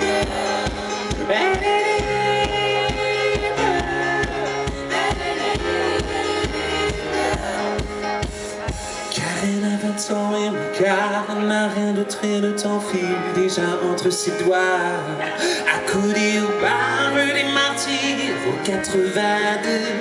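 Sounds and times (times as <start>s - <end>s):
pop band playing: 0.0s - 20.0s.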